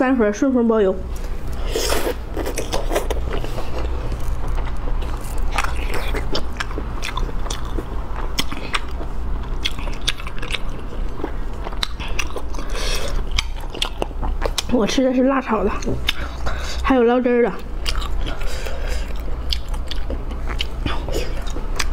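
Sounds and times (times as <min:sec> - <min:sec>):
steady low hum: 0:00.0 - 0:21.9
chewing and biting: 0:01.5 - 0:14.8, 0:15.7 - 0:16.7, 0:17.6 - 0:21.9.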